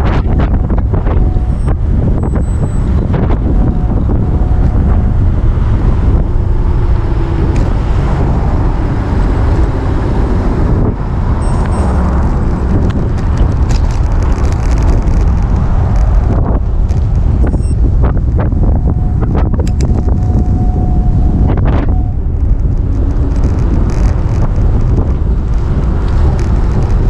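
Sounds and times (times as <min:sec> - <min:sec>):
road and vehicle noise: 0:00.0 - 0:27.0
wind buffeting microphone: 0:00.0 - 0:27.0.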